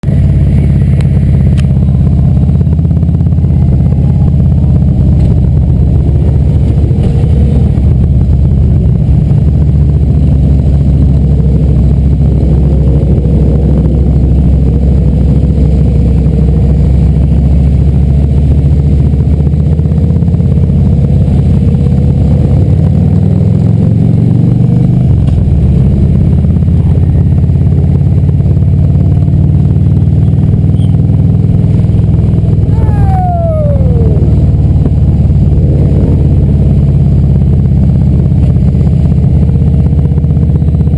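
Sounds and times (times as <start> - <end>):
motorcycle engine revving: 0.0 - 40.9
motorcycle engines rumbling: 0.0 - 40.9.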